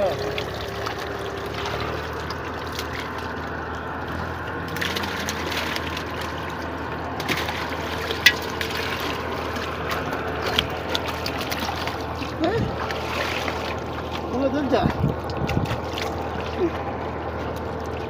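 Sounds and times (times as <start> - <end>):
steady low hum: 0.0 - 18.0
water splashing and trickling: 0.0 - 18.0.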